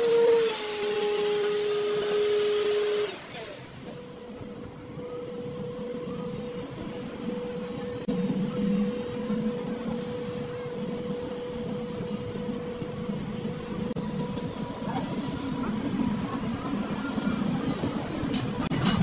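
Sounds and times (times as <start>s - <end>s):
machine motor whining: 0.0s - 18.7s.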